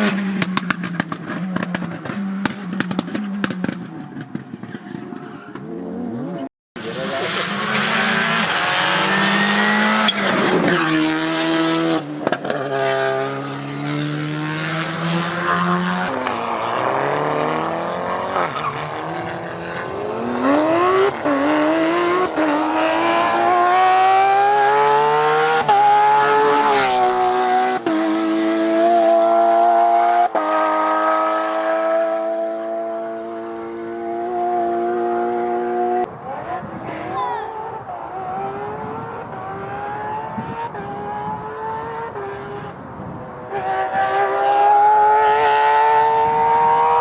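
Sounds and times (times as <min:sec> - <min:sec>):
car passing: 0:00.0 - 0:47.0
rally car engine shifting gears: 0:00.0 - 0:47.0.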